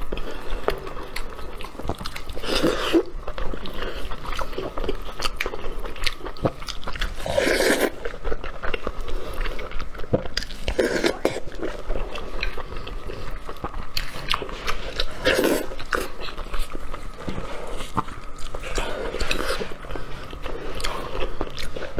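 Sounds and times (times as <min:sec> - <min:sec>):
wet chewing and lip smacking: 0:00.0 - 0:21.9.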